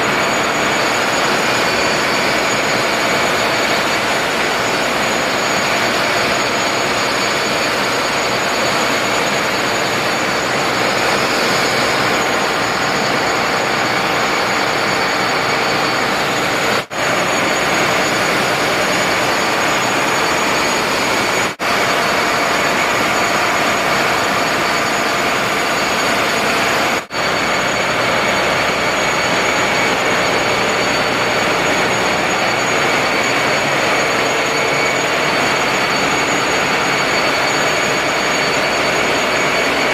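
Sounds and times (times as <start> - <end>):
engine-room machinery running: 0.0 - 39.9
thin high whines: 0.0 - 39.9.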